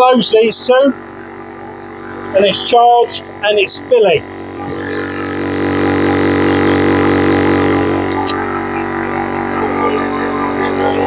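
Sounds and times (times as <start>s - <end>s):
compressor electric motor drone: 0.0s - 11.0s.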